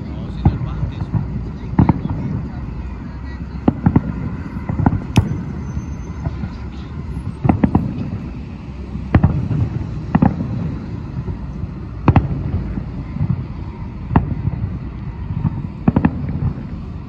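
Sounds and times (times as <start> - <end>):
constant low rumble: 0.0 - 17.0
distant firework booms: 0.2 - 2.8, 3.6 - 17.0.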